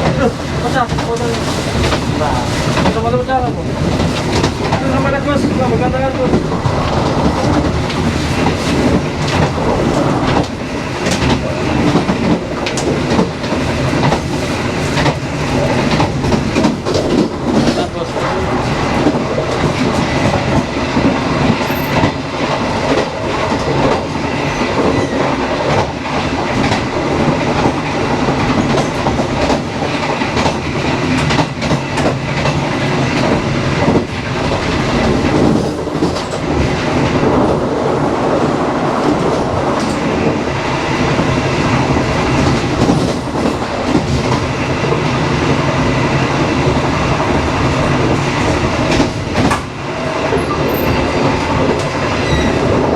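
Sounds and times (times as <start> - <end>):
train carriage rumble and rattle: 0.0 - 52.9.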